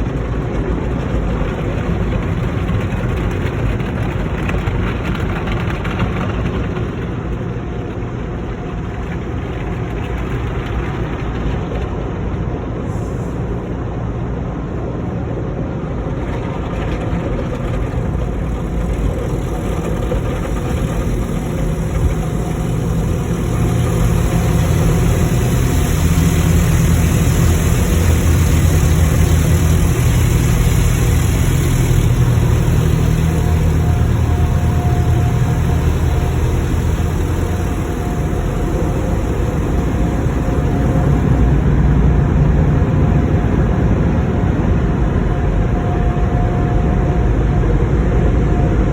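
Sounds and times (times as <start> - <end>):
car wash machinery rumble: 0.0 - 48.9.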